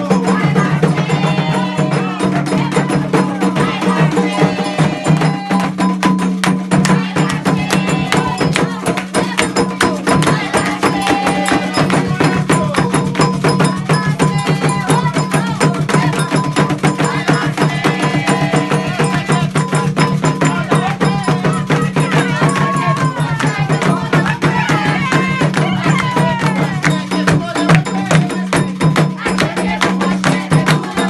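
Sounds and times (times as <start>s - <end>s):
fast hand drumming: 0.0s - 31.0s
voices singing: 0.0s - 31.0s.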